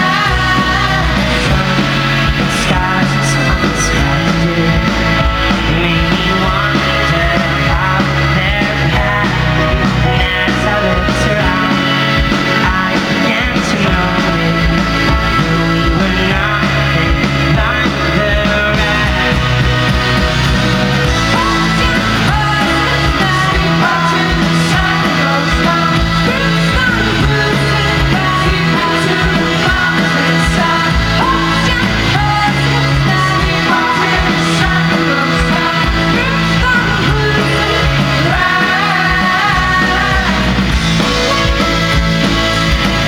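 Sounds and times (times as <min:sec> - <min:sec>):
live folk band playing: 0:00.0 - 0:43.0
person singing: 0:00.0 - 0:43.0.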